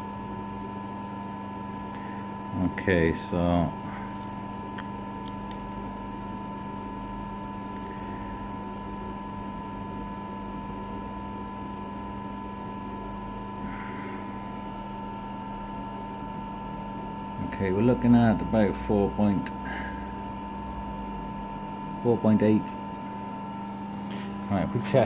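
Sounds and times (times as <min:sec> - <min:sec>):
machinery electrical hum: 0:00.0 - 0:25.0.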